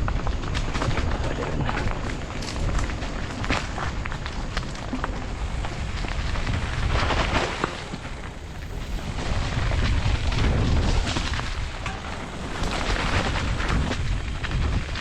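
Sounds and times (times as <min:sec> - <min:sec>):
bike tyre noise: 0:00.0 - 0:15.0
wind rumble on microphone: 0:00.0 - 0:15.0.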